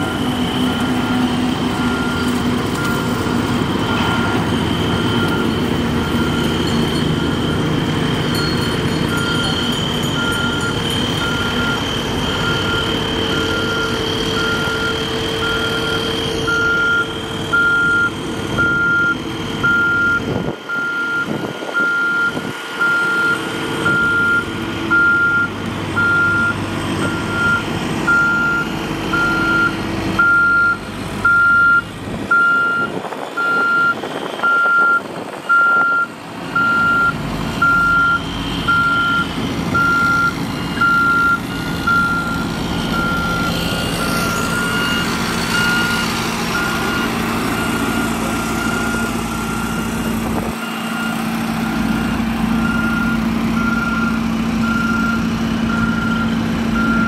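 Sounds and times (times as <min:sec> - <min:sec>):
reversing alarm beeping: 0:00.0 - 0:57.0.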